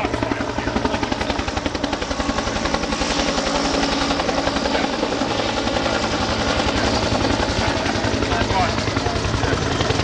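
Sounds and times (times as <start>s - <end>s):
helicopter engine noise: 0.0s - 10.0s
helicopter rotor blades beating: 0.0s - 10.0s.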